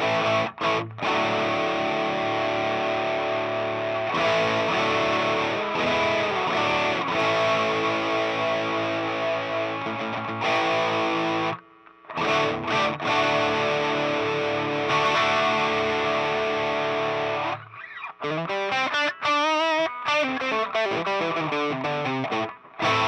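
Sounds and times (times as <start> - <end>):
overdriven electric guitar chords: 0.0 - 23.0.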